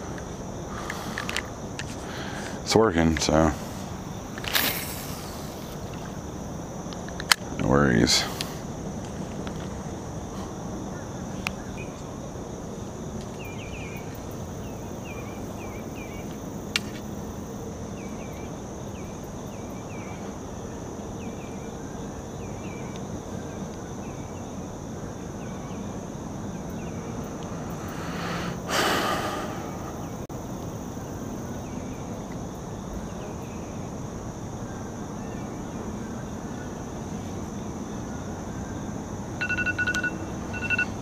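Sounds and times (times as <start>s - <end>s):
insect drone: 0.0s - 41.0s.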